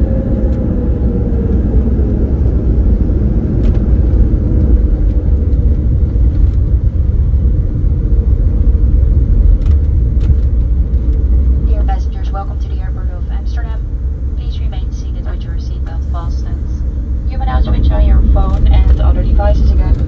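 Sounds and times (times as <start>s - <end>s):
faint jet engine hum: 0.0s - 20.0s
landing gear low rumble: 0.0s - 20.0s.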